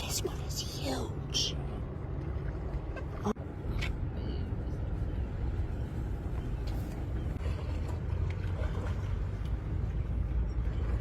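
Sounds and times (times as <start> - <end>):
low rumble of moving water: 0.0 - 11.0.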